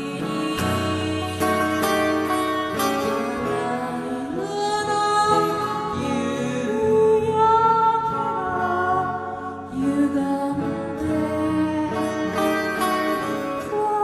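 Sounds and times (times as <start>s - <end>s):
instrumental accompaniment: 0.0s - 14.0s
person singing long notes: 0.0s - 14.0s.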